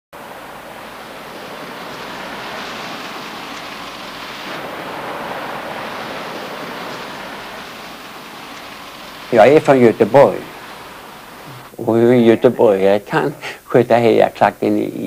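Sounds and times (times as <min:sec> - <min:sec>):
outdoor rushing noise: 0:00.1 - 0:12.7.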